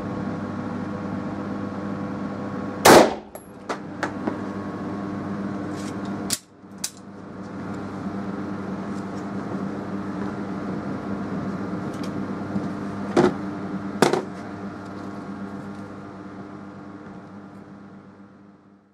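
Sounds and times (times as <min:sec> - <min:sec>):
machine hum: 0:00.0 - 0:18.9.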